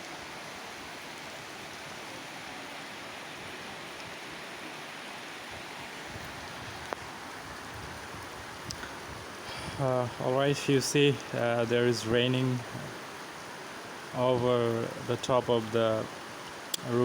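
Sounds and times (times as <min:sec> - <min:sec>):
rain on tin roofs: 0:00.0 - 0:17.0.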